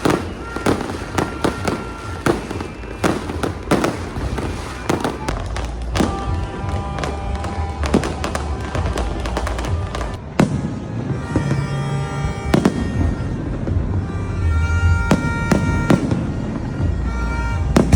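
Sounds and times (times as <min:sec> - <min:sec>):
music playing: 0:00.0 - 0:10.3, 0:11.0 - 0:17.9
fireworks bangs: 0:00.0 - 0:17.9.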